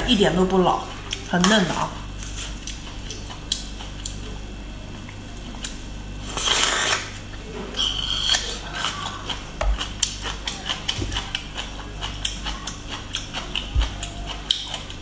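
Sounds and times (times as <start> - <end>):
chewing with crackles: 2.0 - 7.0, 7.8 - 15.0.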